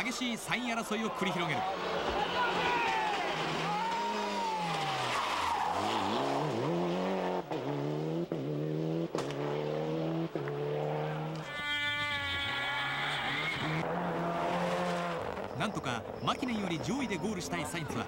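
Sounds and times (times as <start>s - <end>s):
rally car engine revving: 1.8s - 16.8s.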